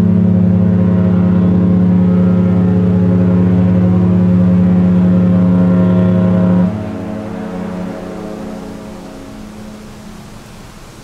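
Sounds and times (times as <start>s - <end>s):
ship horn deep blast: 0.0s - 10.5s.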